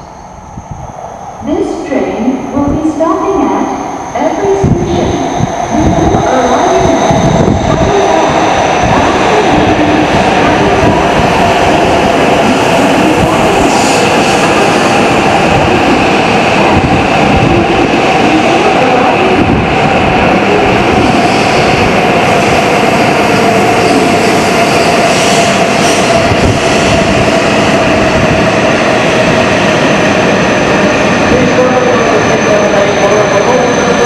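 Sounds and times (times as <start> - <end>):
train rushing and rumbling: 0.0 - 34.0.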